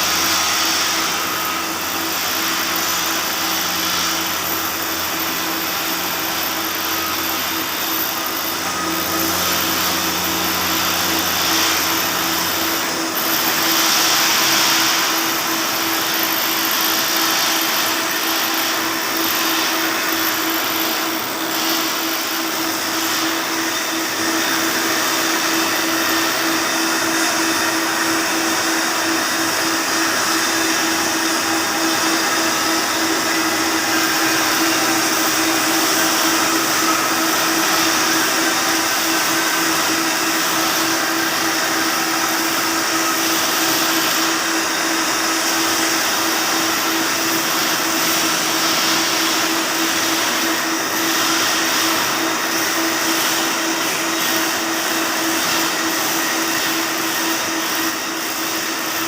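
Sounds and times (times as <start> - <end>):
welding arc crackling: 0.0 - 59.0.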